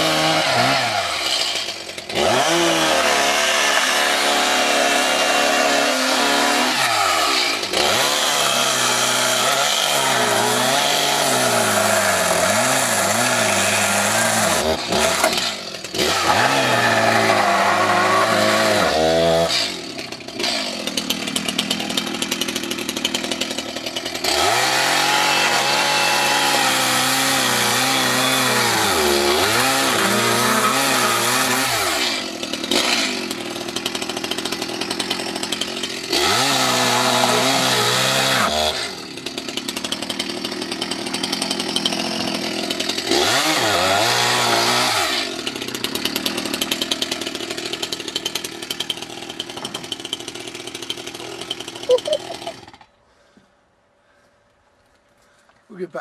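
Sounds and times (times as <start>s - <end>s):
chainsaw revving while cutting: 0.0s - 52.9s.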